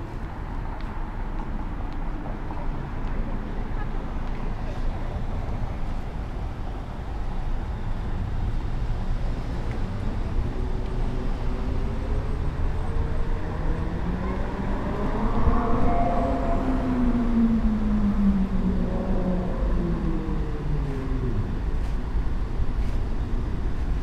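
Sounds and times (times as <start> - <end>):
streetcar rumble: 0.0 - 24.0.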